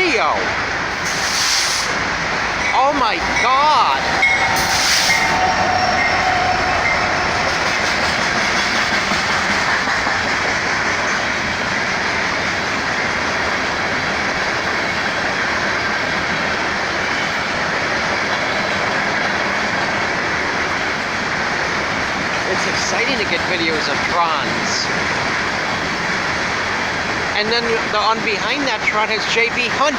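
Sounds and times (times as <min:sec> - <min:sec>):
freight trains rumbling and rattling: 0:00.0 - 0:29.9.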